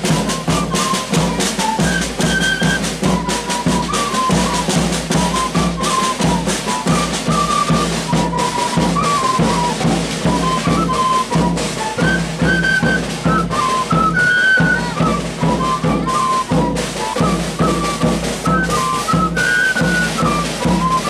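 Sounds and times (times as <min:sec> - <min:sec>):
large drum beaten with stick: 0:00.0 - 0:21.0
snare drums: 0:00.0 - 0:21.0
wooden flutes playing melody: 0:00.0 - 0:21.0.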